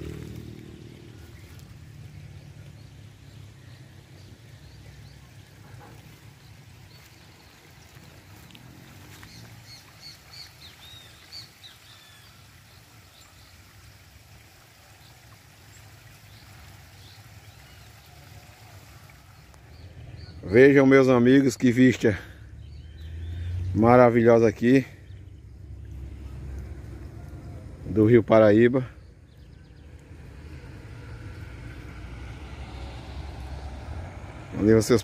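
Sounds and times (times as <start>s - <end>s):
low outdoor rumble: 0.0s - 10.9s, 16.0s - 35.0s
small birds chirping: 0.0s - 33.6s.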